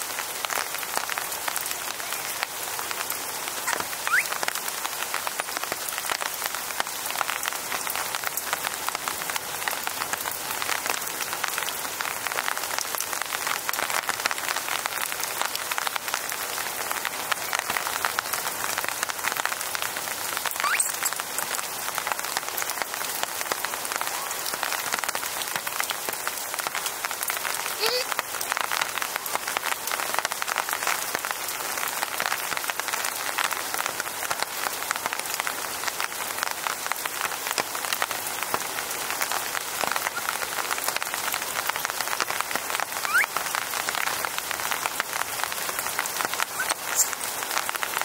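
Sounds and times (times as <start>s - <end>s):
raindrops pattering: 0.0s - 48.0s.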